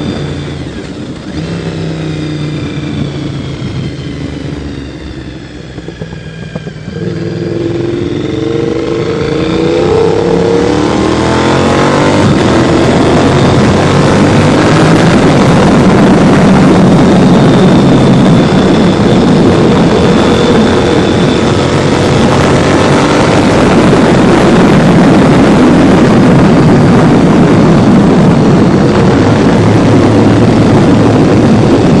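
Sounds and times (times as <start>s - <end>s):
motorcycle engine running loud: 0.0s - 32.0s.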